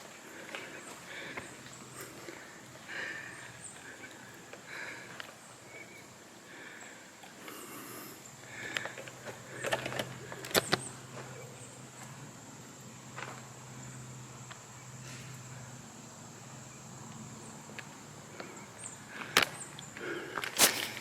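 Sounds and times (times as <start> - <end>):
light scattered ticks: 0.0 - 12.4, 13.0 - 21.0.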